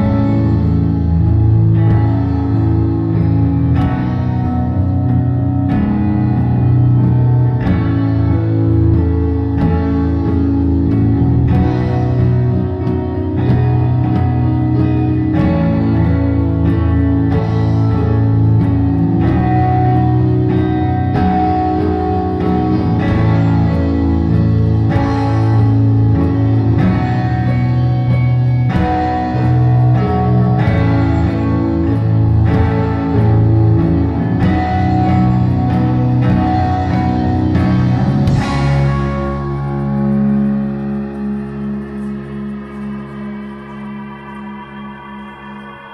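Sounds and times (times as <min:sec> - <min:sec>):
bass and drums: 0:00.0 - 0:45.9
electric guitar: 0:00.0 - 0:45.9.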